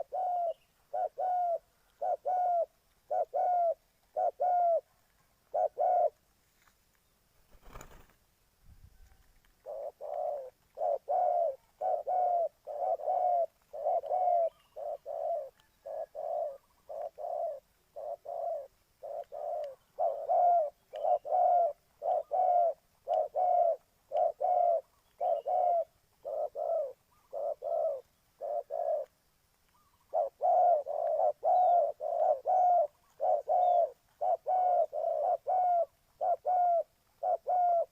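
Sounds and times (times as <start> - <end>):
dove cooing: 0.0 - 6.2, 9.0 - 29.1, 29.8 - 37.9.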